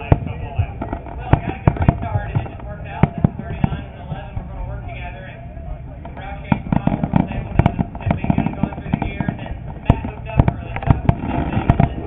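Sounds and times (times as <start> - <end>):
fireworks bangs and crackles: 0.0 - 5.4, 6.0 - 12.0.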